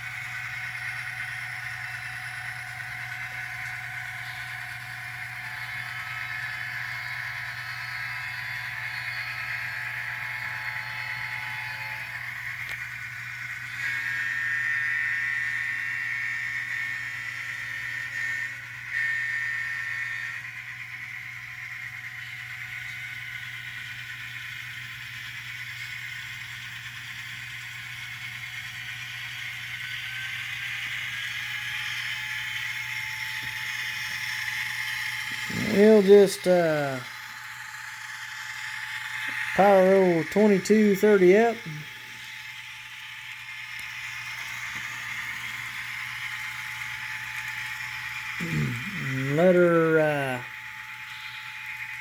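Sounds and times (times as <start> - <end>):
model train motor whirring: 0.0 - 52.0.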